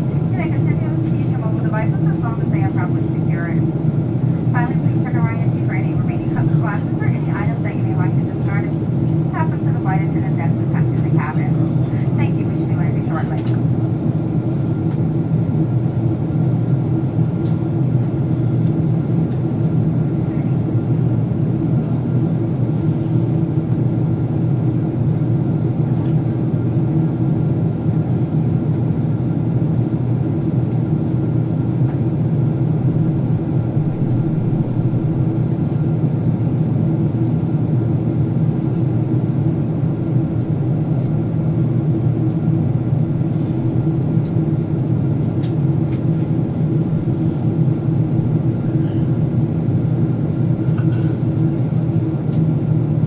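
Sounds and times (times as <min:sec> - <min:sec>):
airliner cabin engine drone: 0:00.0 - 0:53.0.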